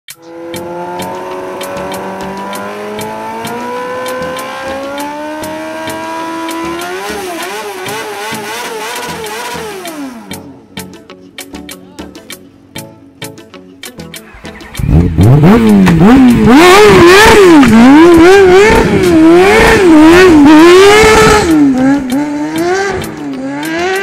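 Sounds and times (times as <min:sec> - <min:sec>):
go-kart engine revving: 0:00.2 - 0:10.5, 0:14.2 - 0:24.0.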